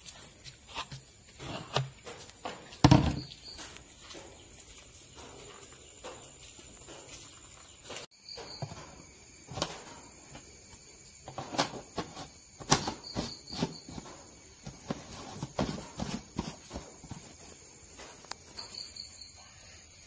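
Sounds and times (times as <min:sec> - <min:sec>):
high insect trill: 0:02.1 - 0:20.0.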